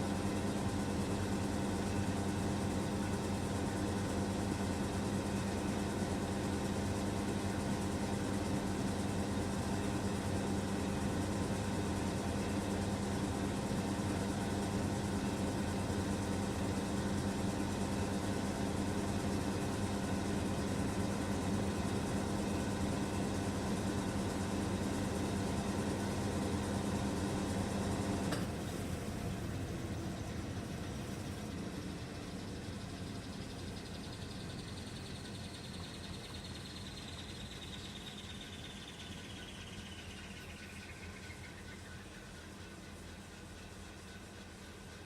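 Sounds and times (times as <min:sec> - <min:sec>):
washing machine motor humming: 0:00.0 - 0:45.0.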